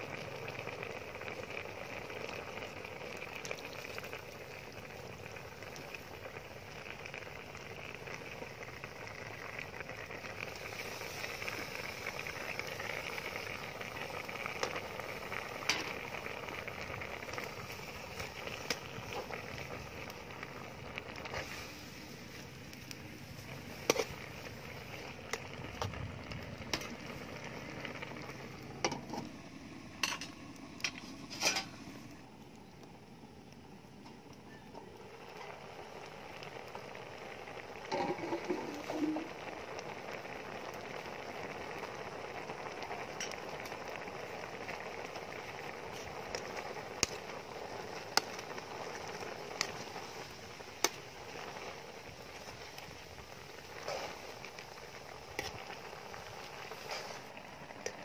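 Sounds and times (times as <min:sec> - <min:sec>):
soup bubbling and sizzling: 0:00.0 - 0:58.0.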